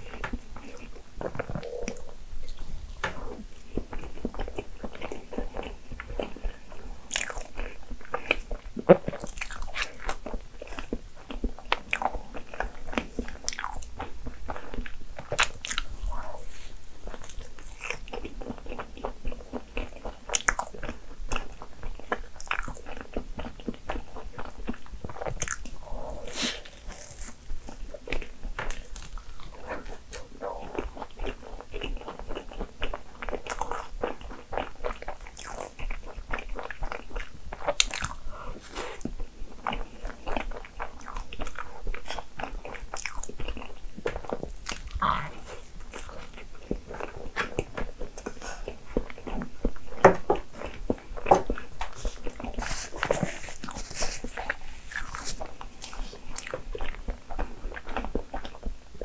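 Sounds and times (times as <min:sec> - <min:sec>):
person chewing with mouth clicks: 0:00.0 - 0:59.0.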